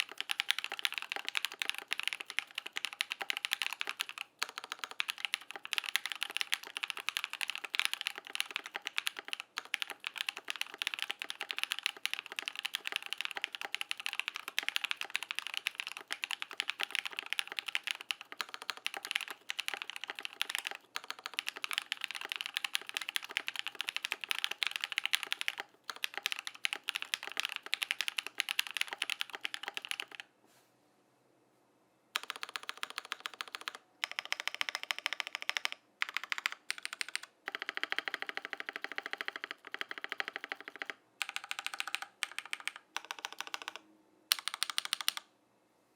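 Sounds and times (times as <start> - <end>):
mechanical keyboard typing: 0.0 - 30.3, 32.2 - 45.3.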